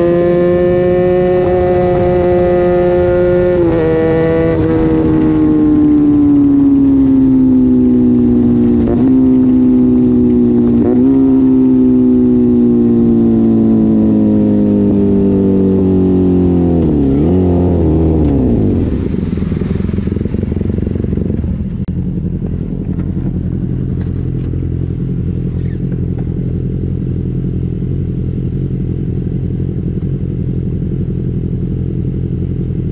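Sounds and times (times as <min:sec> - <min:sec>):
motorcycle engine winding down: 0:00.0 - 0:21.8, 0:22.5 - 0:28.8.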